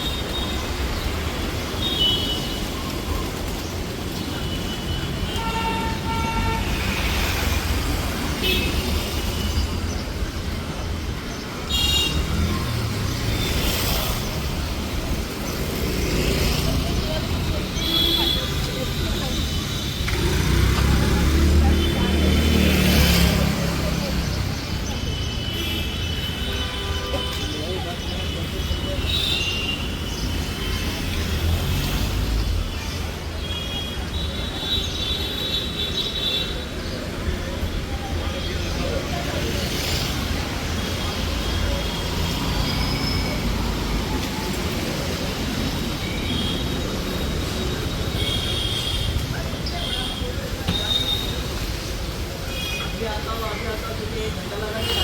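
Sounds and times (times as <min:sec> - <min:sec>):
street traffic rumble: 0:00.0 - 0:55.0.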